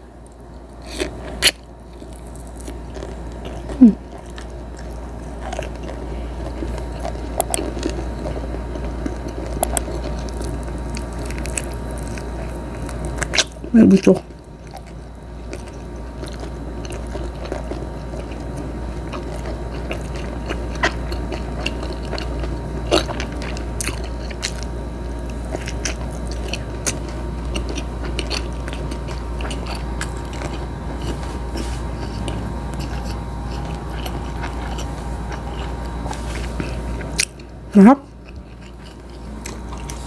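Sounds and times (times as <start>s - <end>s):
steady low hum: 0.0s - 40.0s
chewing with wet mouth sounds: 0.2s - 40.0s.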